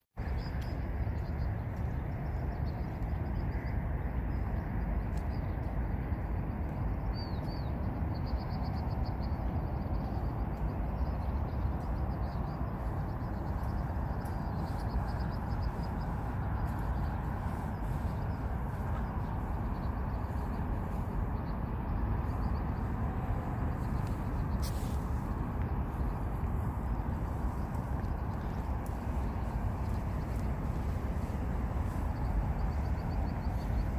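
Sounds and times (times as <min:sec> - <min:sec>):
low outdoor rumble: 0:00.2 - 0:33.9.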